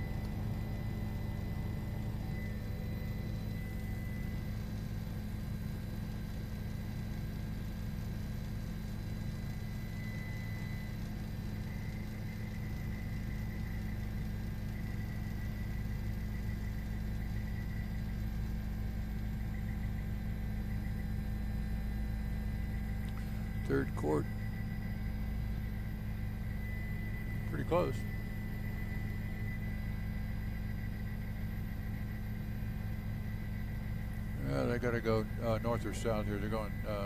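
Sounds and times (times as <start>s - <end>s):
engine drone with high whine: 0.0s - 37.0s.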